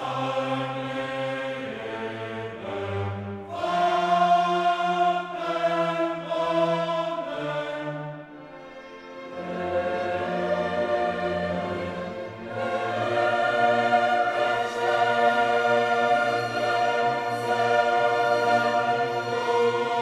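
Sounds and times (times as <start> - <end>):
choir singing long notes: 0.0 - 20.0.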